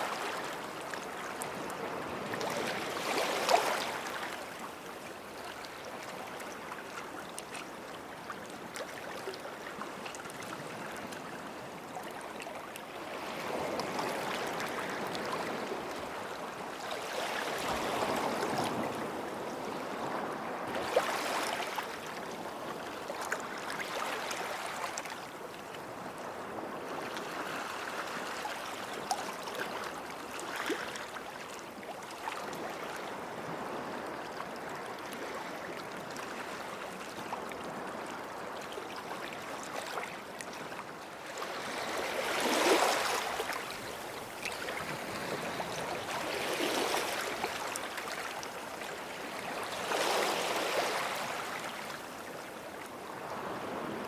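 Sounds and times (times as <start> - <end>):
waves washing onto shore: 0.0 - 25.2, 32.4 - 54.0.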